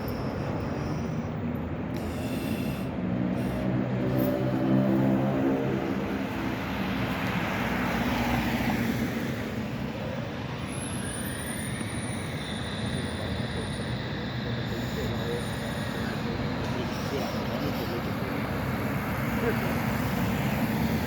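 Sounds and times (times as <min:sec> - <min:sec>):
tram rumbling on track: 0:00.0 - 0:21.0.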